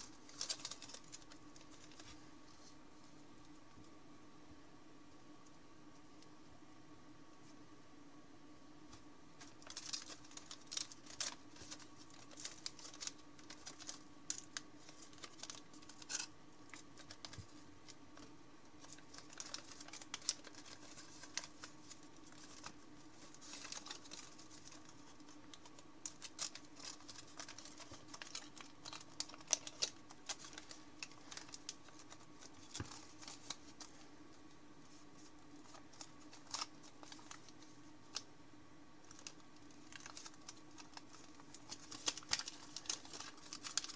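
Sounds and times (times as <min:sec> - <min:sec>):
paper crackling and rustling: 0:00.0 - 0:03.8, 0:09.4 - 0:38.3, 0:39.0 - 0:43.9.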